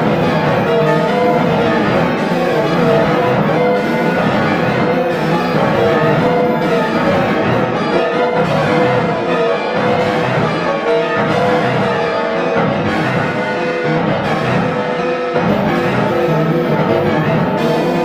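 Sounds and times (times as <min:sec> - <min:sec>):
dense orchestral-style music: 0:00.0 - 0:18.0.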